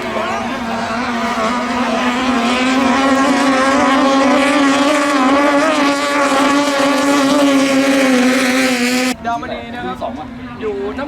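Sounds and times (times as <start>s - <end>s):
speedboat engine at high revs: 0.0s - 9.4s.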